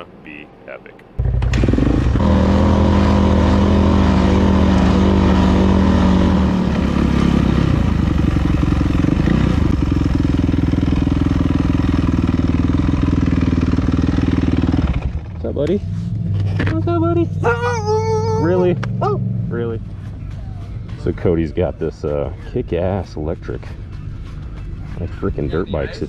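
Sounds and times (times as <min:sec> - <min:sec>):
dirt bike engine running: 0:01.2 - 0:25.8.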